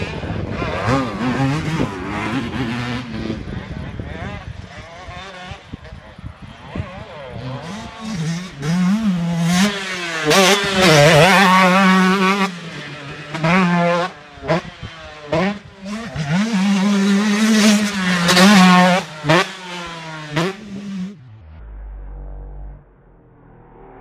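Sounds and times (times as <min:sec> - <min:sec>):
motocross bike revving: 0:00.0 - 0:21.2.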